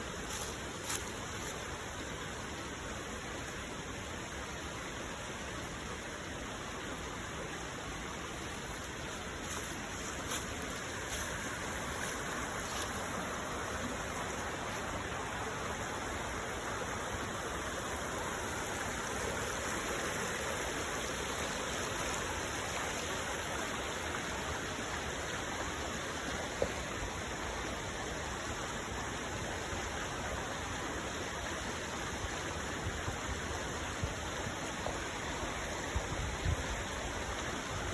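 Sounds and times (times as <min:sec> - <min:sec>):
stream rushing: 0:00.0 - 0:37.9.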